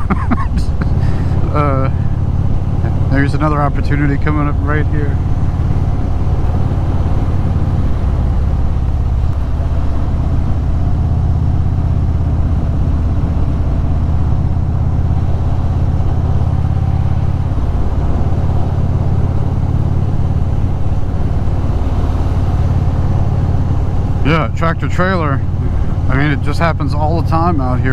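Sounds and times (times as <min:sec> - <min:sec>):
motorcycle engine running: 0:00.0 - 0:27.9
road and wind noise: 0:00.0 - 0:27.9.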